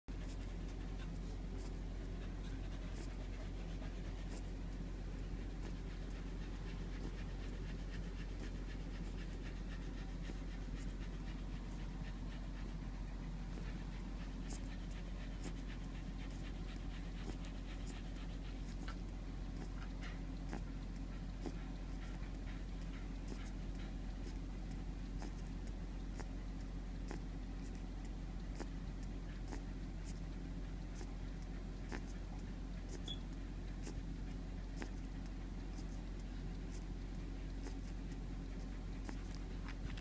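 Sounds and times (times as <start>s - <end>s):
puppy quick breathing: 0.1s - 40.0s
steady low hum: 0.1s - 40.0s.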